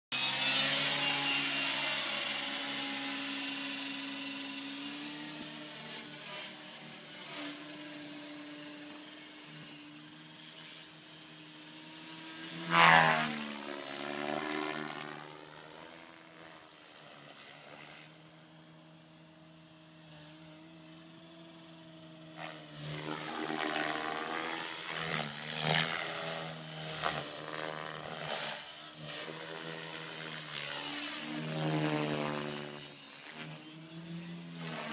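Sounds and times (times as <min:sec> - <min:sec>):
model helicopter flying: 0:00.1 - 0:34.9.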